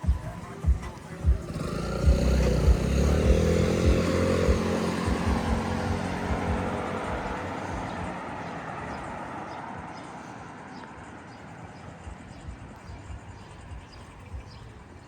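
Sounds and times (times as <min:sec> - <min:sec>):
footsteps on pavement: 0:00.0 - 0:15.0
motor vehicle passing: 0:00.0 - 0:15.0.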